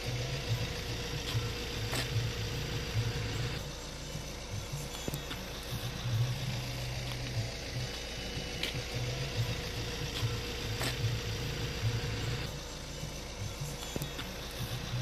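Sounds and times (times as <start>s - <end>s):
faint hum: 0.0s - 15.0s
vehicle engine rumbling: 0.0s - 15.0s.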